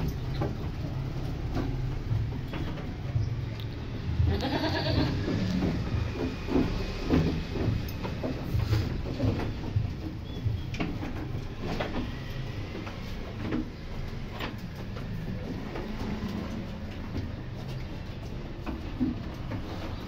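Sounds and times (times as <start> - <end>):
hooves knocking on wooden floor: 0.0 - 20.0.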